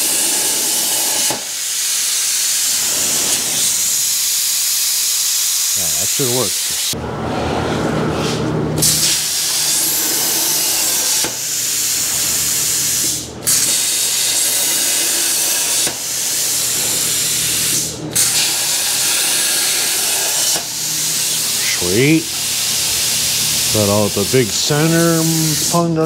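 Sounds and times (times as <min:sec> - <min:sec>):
plasma cutter hissing: 0:00.0 - 0:07.0, 0:08.8 - 0:26.0.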